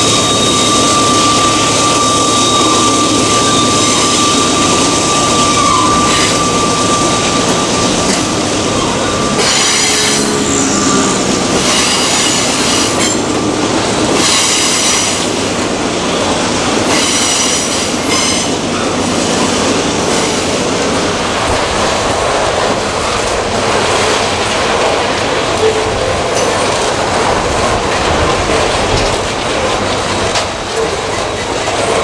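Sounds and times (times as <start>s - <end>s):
train rolling rumble: 0.0s - 32.0s
train wheels squealing on rails: 0.0s - 32.0s.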